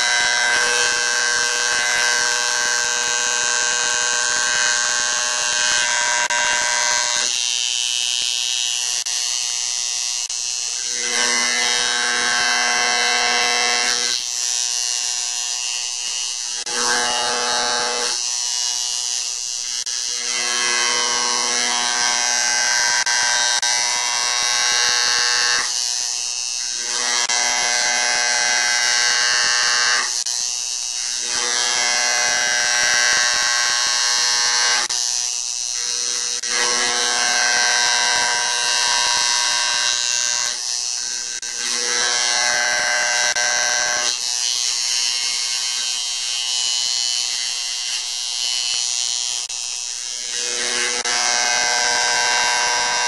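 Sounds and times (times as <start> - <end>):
electric engraver buzzing on brass: 0.0 - 53.0.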